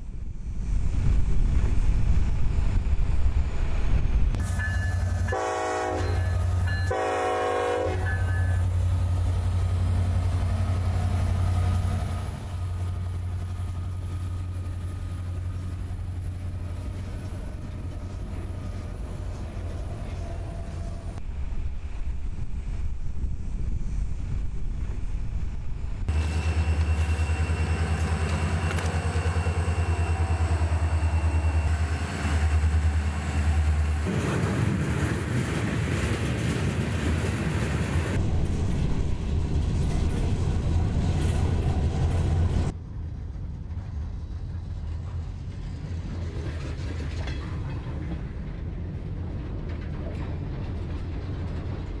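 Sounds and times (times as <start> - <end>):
diesel locomotive running: 0.2 - 52.0
train wheels rolling on rails: 0.8 - 21.2, 24.2 - 52.0.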